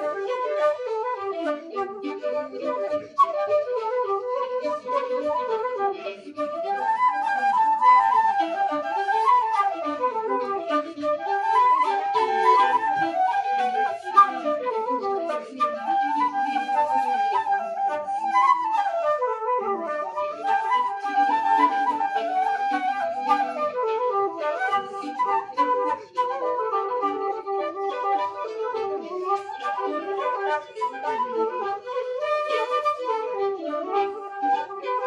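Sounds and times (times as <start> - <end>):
fiddle: 0.0 - 35.0
flutes playing: 0.0 - 35.0.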